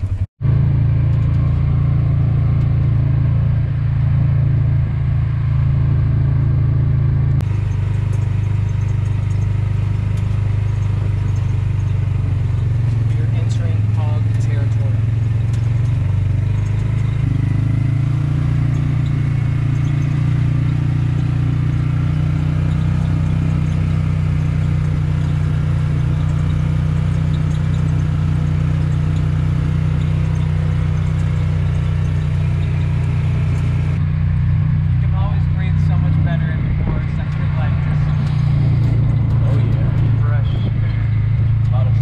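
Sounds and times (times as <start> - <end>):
utility vehicle engine droning: 0.0 - 42.0.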